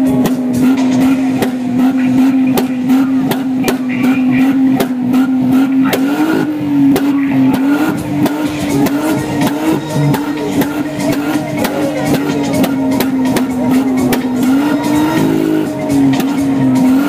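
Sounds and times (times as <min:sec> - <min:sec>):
car engine revving: 0:00.0 - 0:17.0
sharp exhaust cracks: 0:00.0 - 0:17.0.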